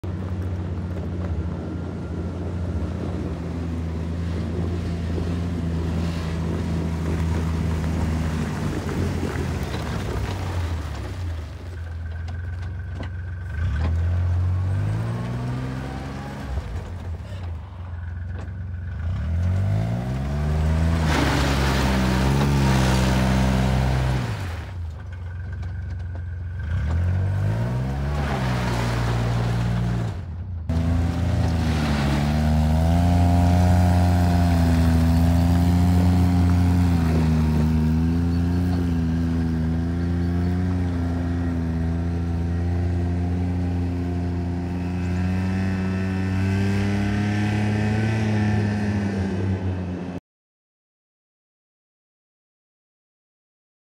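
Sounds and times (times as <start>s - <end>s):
atv engine idling and revving: 0.0s - 50.2s.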